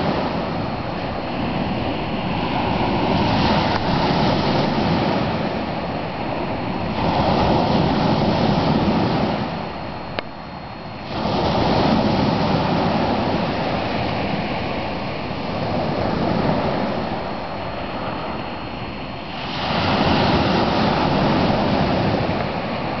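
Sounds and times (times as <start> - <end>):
waves washing on pebble beach: 0.0 - 10.0, 11.0 - 23.0.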